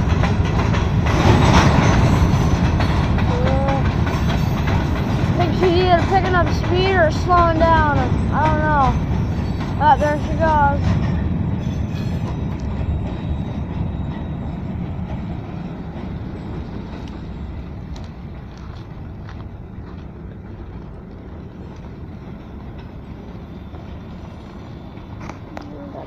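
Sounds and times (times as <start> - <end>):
freight train rumbling on rails: 0.0 - 26.0.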